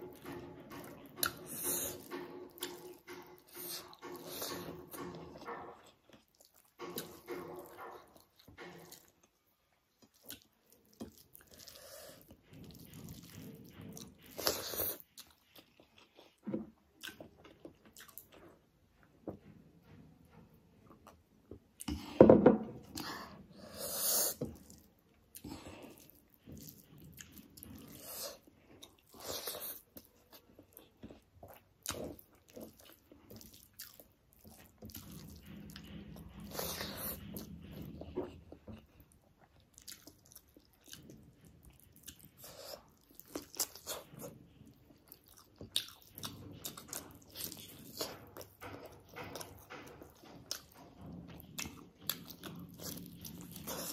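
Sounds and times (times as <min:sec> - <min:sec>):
person chewing food: 0:00.0 - 0:19.5, 0:20.8 - 0:53.9.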